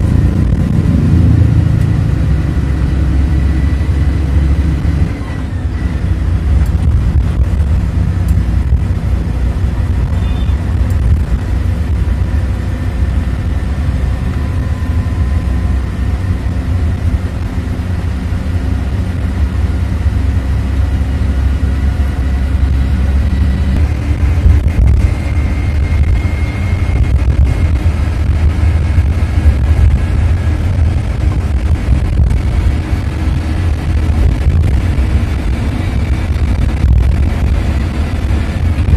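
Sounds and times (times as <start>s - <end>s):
bus engine and tyre rumble: 0.0s - 38.9s.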